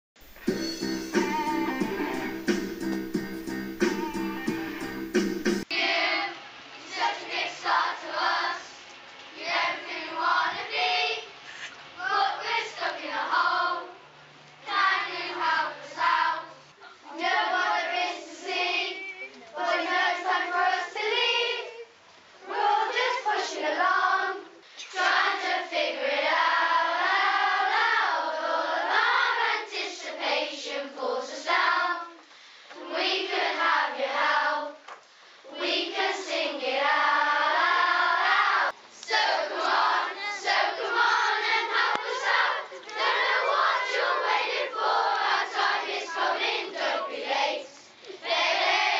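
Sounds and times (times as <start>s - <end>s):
children's choir singing: 0.2s - 14.0s, 14.6s - 32.2s, 32.8s - 34.8s, 35.5s - 48.9s.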